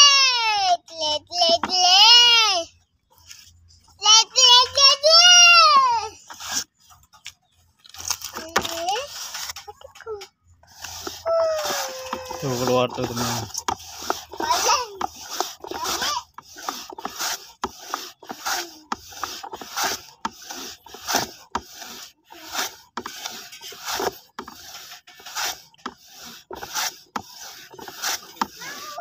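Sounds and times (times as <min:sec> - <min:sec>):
wood scraping on wood: 0:01.3 - 0:29.0.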